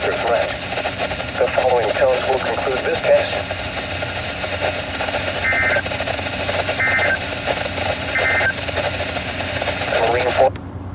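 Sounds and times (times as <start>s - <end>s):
warbling digital data bursts: 0.0s - 10.4s
steady radio static: 0.0s - 10.6s.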